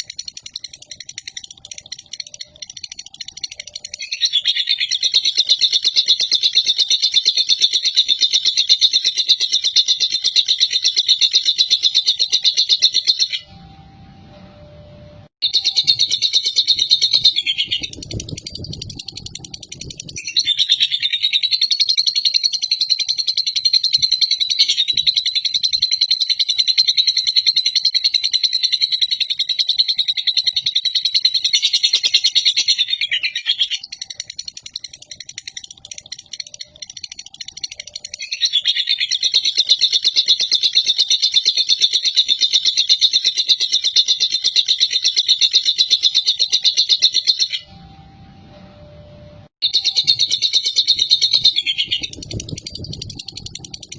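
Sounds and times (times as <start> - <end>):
lovebird rattling chatter: 0.0 - 13.1, 15.4 - 28.3, 33.8 - 47.0, 49.6 - 53.9.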